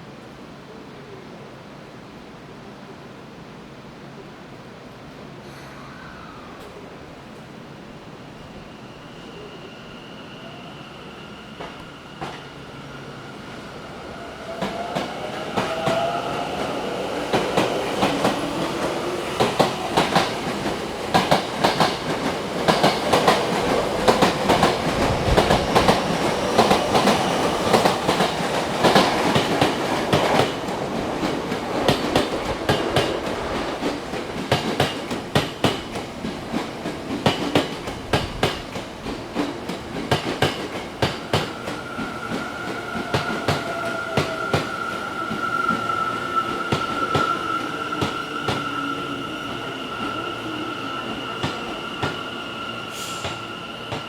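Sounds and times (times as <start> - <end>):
electric train passing: 6.5 - 54.0.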